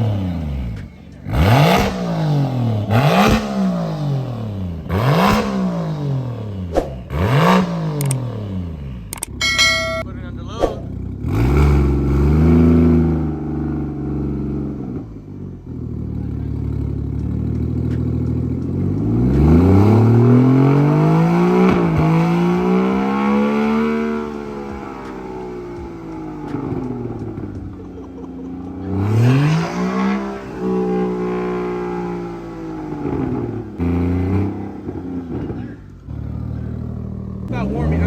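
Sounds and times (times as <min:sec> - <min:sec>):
exhaust pop: 0:00.0 - 0:12.1, 0:12.7 - 0:37.5
car engine revving: 0:00.0 - 0:38.0.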